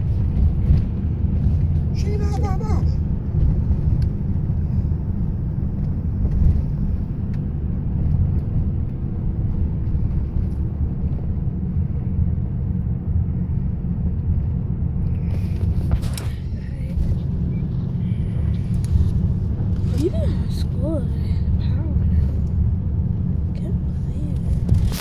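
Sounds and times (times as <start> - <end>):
car cabin rumble: 0.0 - 25.0.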